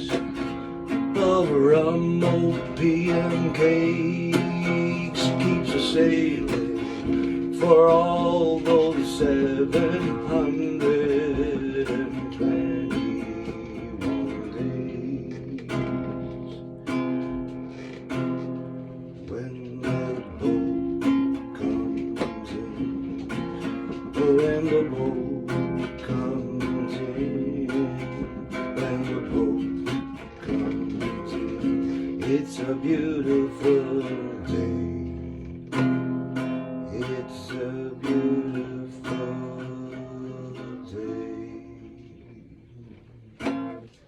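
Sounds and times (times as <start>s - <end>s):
acoustic guitar strumming: 0.0s - 44.0s.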